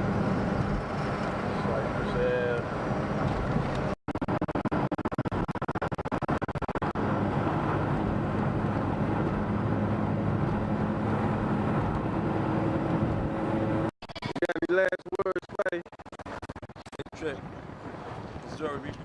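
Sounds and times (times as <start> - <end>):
car driving rumble: 0.0 - 4.0, 6.8 - 19.0.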